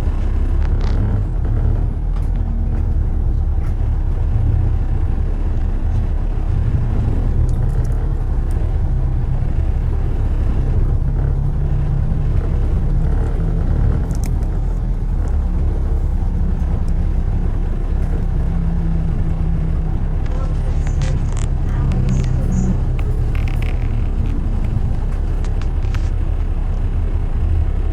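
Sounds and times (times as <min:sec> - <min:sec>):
car driving in traffic: 0:00.0 - 0:27.9.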